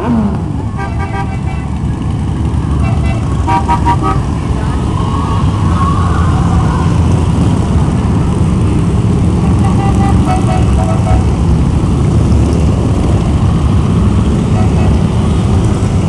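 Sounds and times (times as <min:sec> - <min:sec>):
motorcycles riding past: 0:00.0 - 0:16.0.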